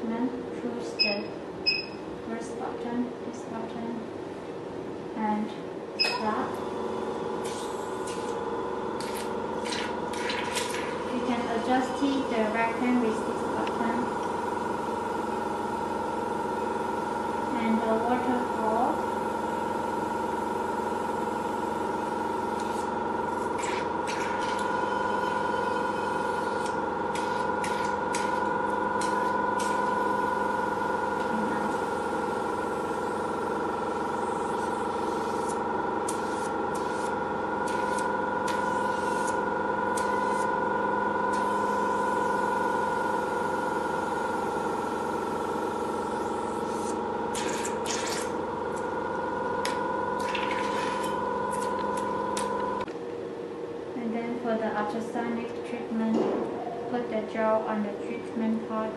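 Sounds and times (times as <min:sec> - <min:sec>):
machine pump humming: 0:03.6 - 0:58.9.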